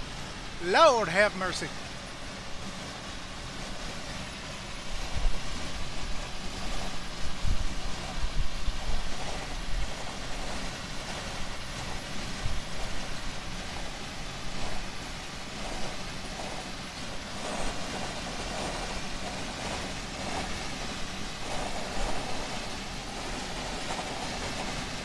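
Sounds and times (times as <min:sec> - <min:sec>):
vehicle road and engine rumble: 0:01.6 - 0:25.0.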